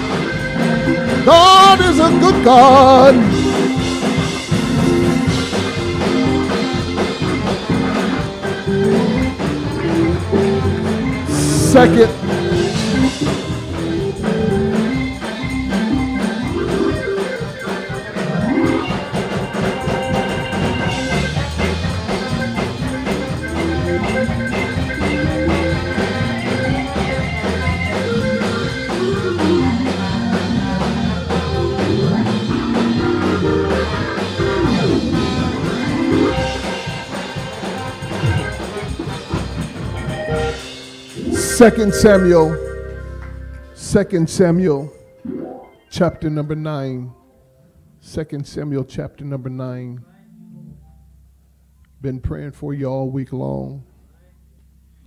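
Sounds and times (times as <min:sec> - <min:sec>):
band playing gospel music: 0:00.0 - 0:47.1.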